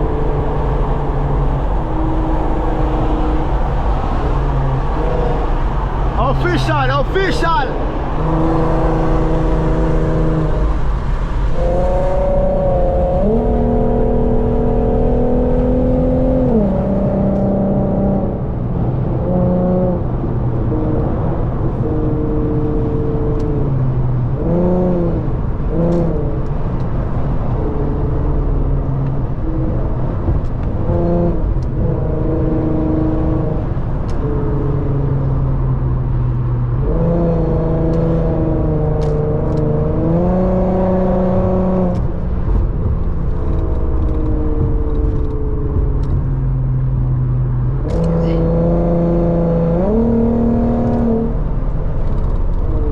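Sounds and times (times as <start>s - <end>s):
car engine revving: 0.0s - 52.9s
road rumble: 0.0s - 52.9s.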